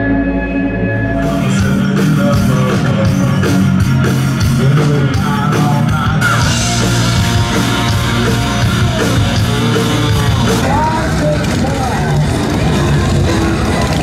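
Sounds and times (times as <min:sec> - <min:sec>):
electric guitars: 0:00.0 - 0:14.0
steady drum beat: 0:01.2 - 0:14.0.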